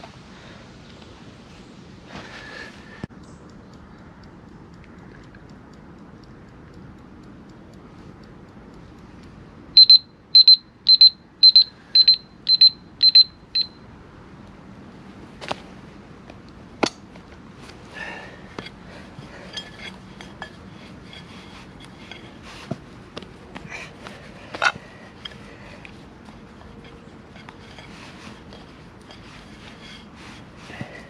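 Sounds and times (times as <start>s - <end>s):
faint scattered clicks: 0.8s - 14.7s, 15.3s - 31.0s.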